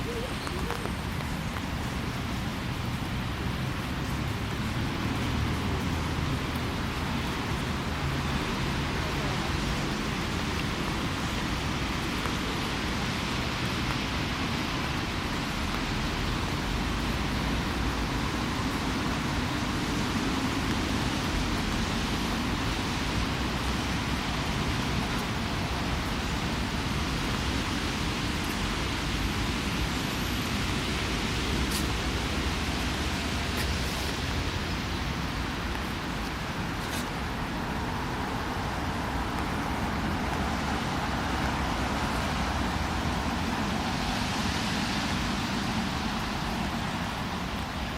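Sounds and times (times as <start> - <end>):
light rain hiss: 0.0 - 47.9.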